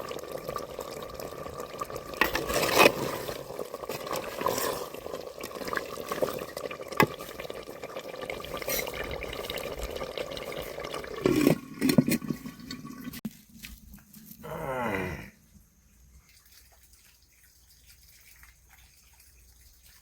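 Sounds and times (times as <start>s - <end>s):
water splashing and running: 0.0s - 14.1s, 16.2s - 20.0s.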